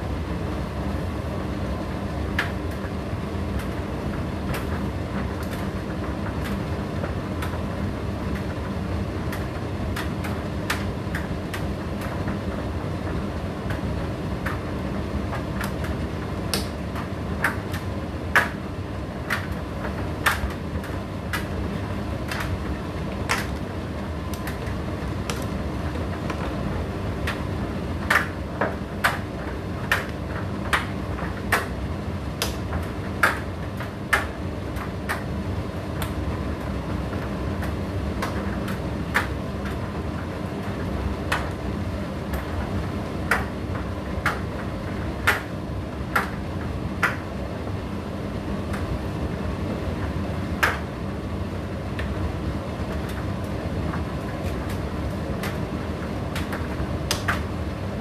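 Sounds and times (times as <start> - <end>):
tumble dryer humming: 0.0 - 58.0.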